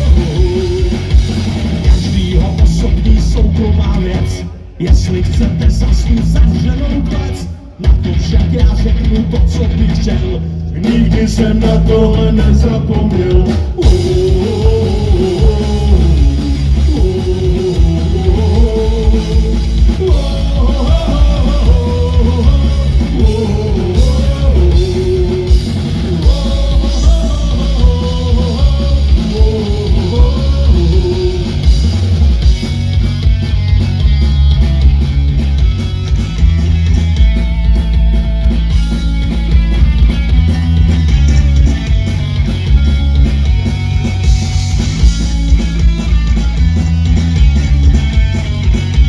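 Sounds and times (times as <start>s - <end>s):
live rock band playing: 0.0s - 49.0s.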